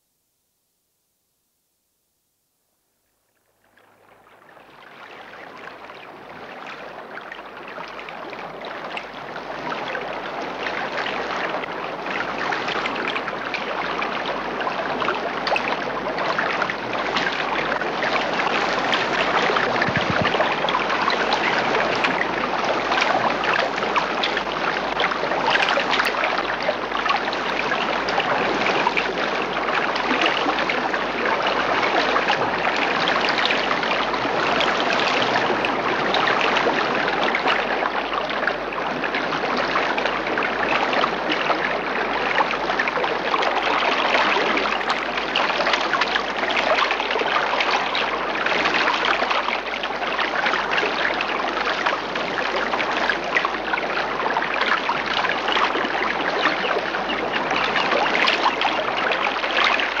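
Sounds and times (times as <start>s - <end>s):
babbling stream water: 3.7s - 60.0s.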